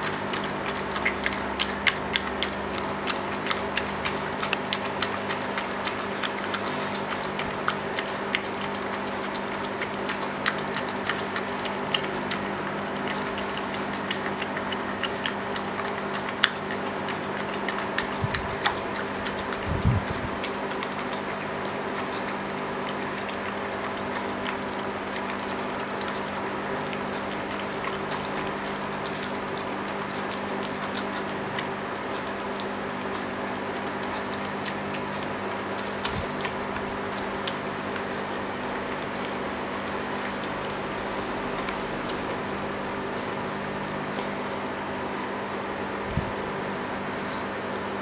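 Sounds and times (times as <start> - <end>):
constant hum: 0.0 - 48.0
dog lapping wet food: 0.0 - 48.0.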